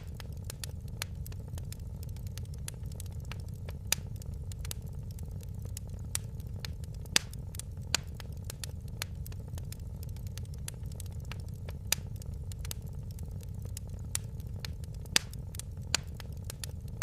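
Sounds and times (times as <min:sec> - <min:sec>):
low rumble of burning fire: 0:00.0 - 0:17.0
wood fire crackling: 0:00.0 - 0:17.0.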